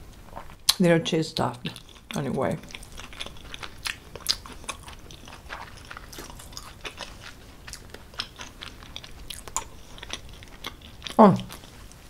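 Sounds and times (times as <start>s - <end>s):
wet chewing of pasta: 0.0s - 0.8s, 1.6s - 12.0s.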